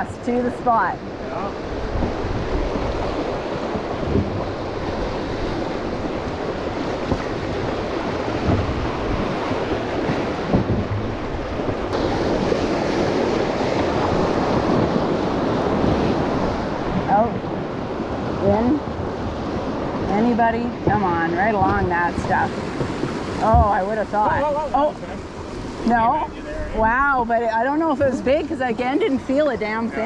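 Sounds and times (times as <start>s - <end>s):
river water rushing: 0.0s - 30.0s
wind buffeting microphone: 0.0s - 30.0s.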